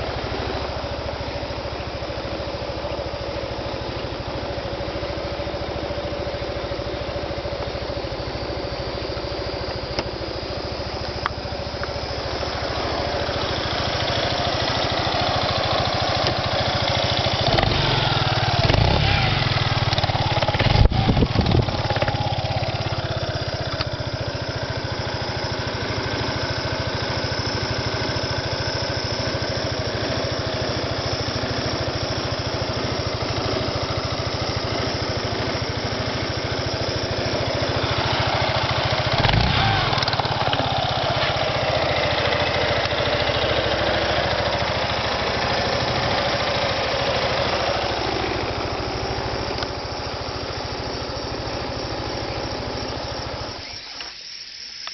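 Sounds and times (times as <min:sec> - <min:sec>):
scooter engine idling: 0:00.0 - 0:54.9.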